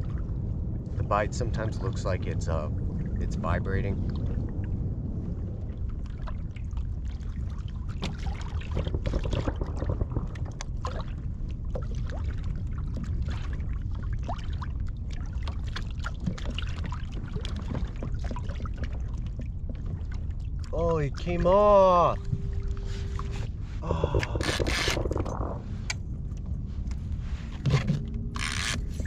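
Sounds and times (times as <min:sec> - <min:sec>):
low rumble of water: 0:00.0 - 0:29.0
waves lapping against kayak hull: 0:00.0 - 0:29.0.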